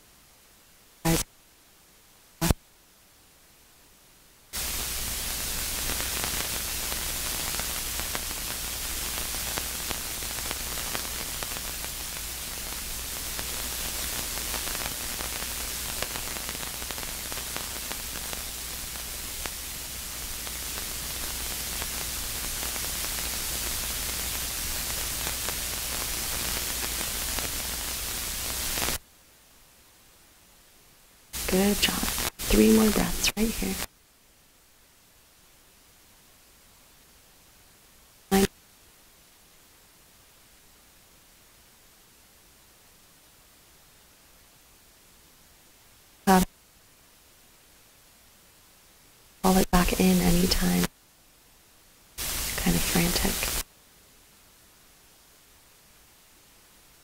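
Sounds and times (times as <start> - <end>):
loud static hiss: 0.0 - 57.0.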